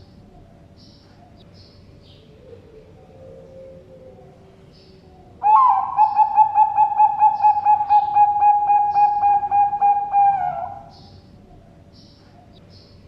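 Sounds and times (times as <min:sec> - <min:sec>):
dove trilling coo: 0:00.2 - 0:12.6.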